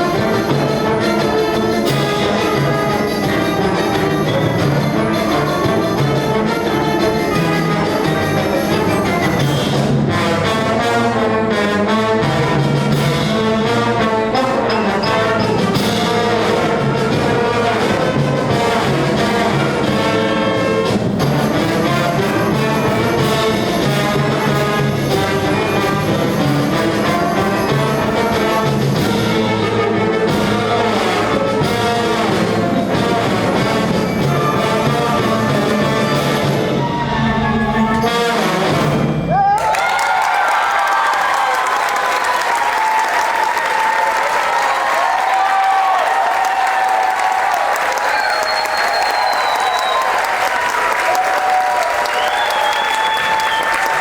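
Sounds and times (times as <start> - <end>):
brass section: 0.0 - 54.0
instrumental band playing: 0.0 - 54.0.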